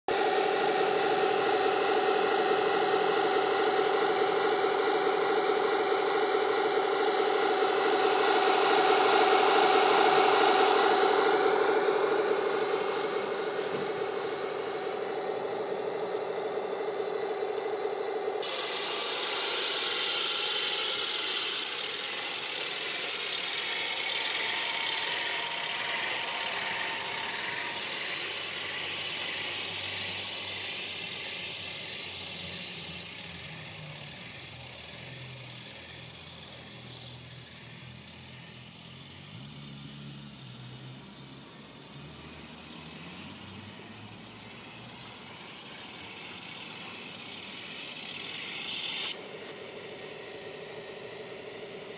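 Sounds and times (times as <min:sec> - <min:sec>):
electric motors and metal tracks running: 0:00.0 - 0:51.9
toy tank hum: 0:00.1 - 0:51.9.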